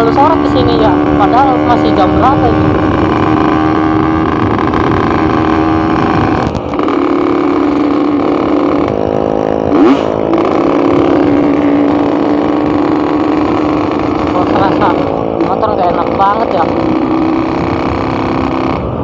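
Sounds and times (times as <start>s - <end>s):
two-stroke motorcycle engine running: 0.0s - 19.0s.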